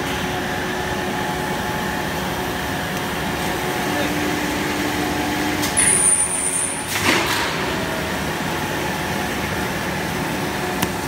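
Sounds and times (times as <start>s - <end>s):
production line machinery noise: 0.0s - 11.0s.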